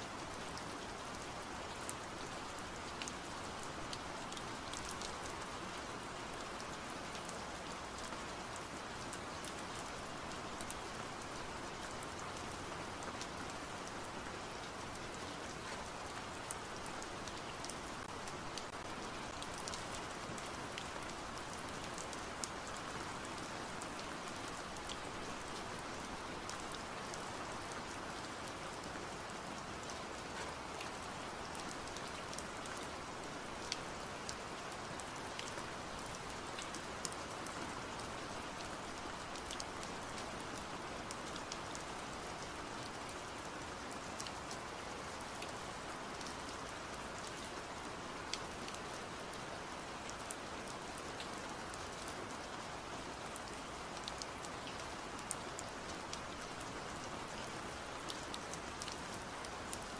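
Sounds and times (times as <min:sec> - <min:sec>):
steady rain-like hiss: 0:00.0 - 0:59.9.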